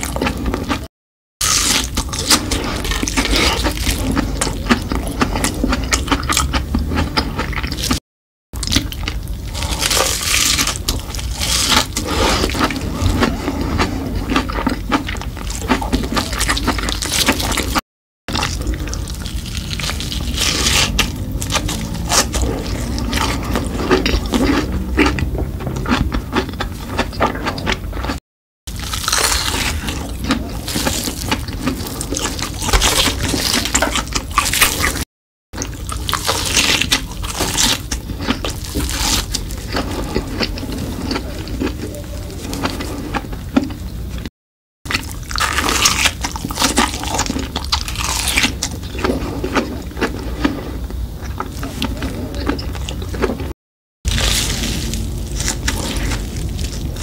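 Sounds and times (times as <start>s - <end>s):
crunching fried snack: 0.0s - 8.0s, 8.6s - 44.3s, 44.9s - 57.0s
wet chewing: 0.0s - 8.0s, 8.6s - 44.3s, 44.9s - 57.0s.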